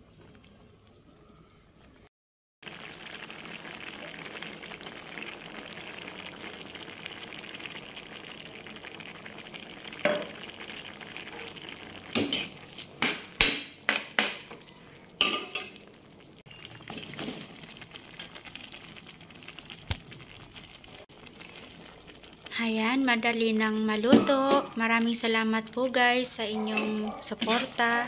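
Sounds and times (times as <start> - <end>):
food simmering and bubbling in a wok: 0.0 - 2.0, 2.6 - 26.5.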